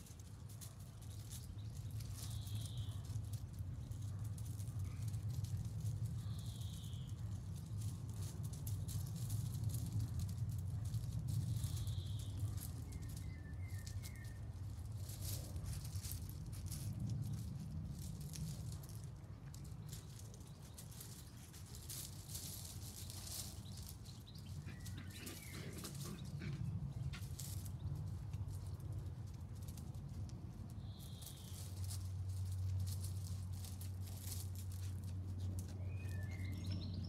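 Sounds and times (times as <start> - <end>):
light clicks and rustles: 0.0 - 37.0
steady low rumble: 0.0 - 37.0.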